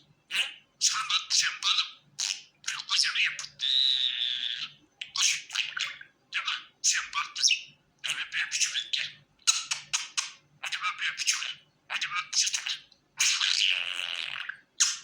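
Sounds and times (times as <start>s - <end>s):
budgerigar chattering: 0.3s - 15.0s.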